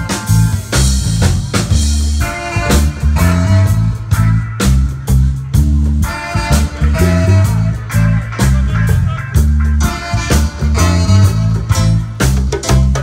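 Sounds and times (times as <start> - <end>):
reggae music: 0.0 - 13.0.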